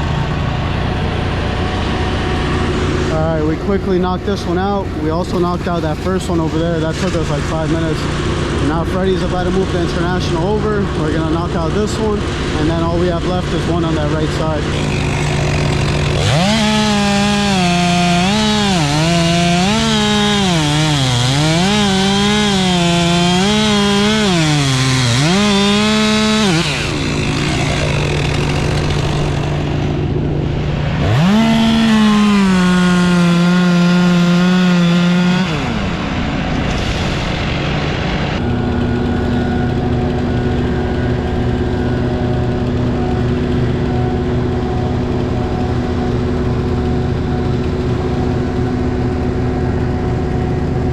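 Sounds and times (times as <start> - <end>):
engine idling: 0.0 - 33.1, 35.9 - 50.9
chainsaw cutting through a tree: 0.0 - 37.2, 38.4 - 50.9.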